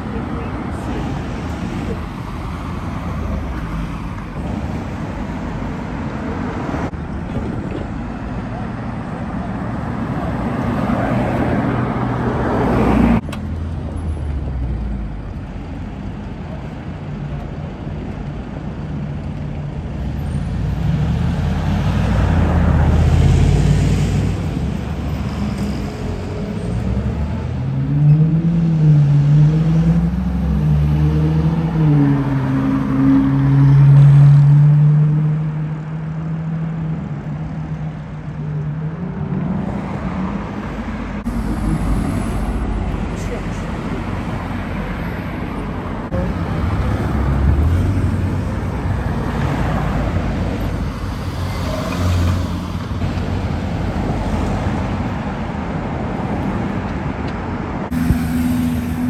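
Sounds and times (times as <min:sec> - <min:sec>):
cars driving past: 0:00.0 - 0:15.4, 0:20.0 - 0:59.0.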